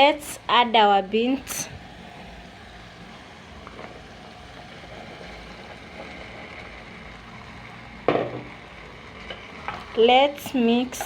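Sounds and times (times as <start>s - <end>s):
spices sizzling in a pot: 0.0s - 11.0s.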